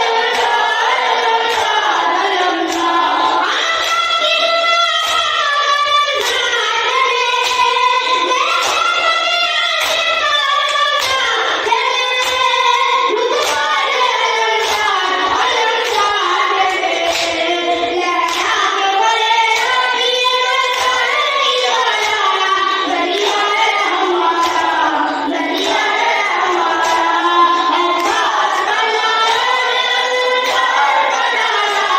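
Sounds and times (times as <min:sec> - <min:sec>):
boy chanting into a microphone: 0:00.0 - 0:31.9.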